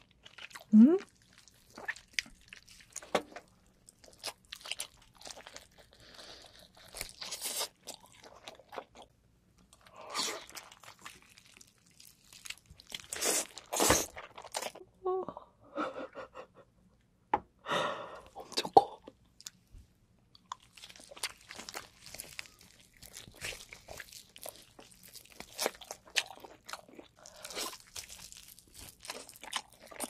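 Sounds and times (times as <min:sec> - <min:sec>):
chewing squid: 0:00.0 - 0:14.8, 0:20.3 - 0:30.0.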